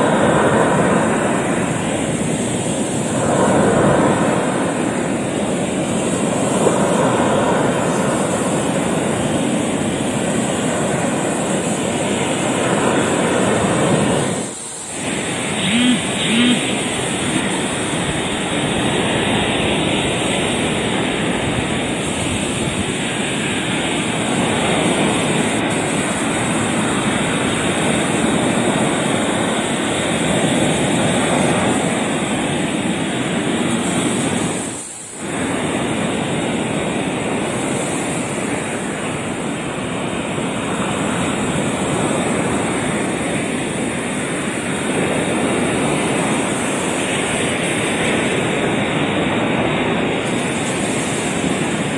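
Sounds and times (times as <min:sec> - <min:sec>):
waves breaking on rocky shore: 0:00.0 - 0:51.9.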